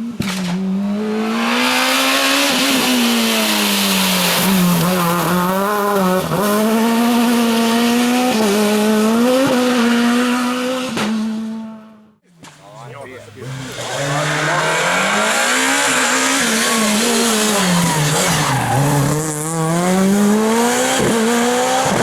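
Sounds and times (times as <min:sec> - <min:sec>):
rally car engine revving high: 0:00.0 - 0:22.0.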